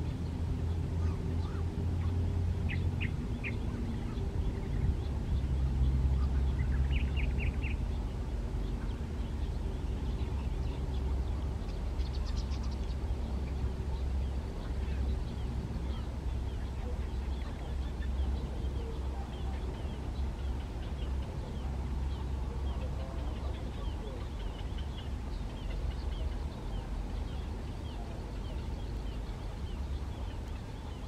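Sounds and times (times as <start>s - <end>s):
small birds chirping: 0.0s - 31.0s
steady low rumble: 0.0s - 31.0s.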